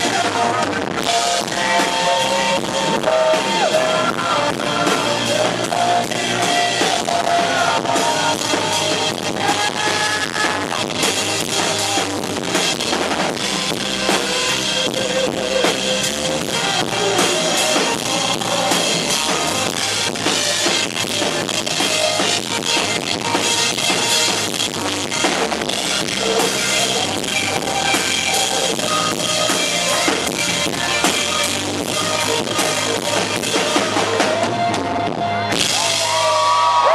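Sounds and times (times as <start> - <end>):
live band music: 0.0 - 36.8.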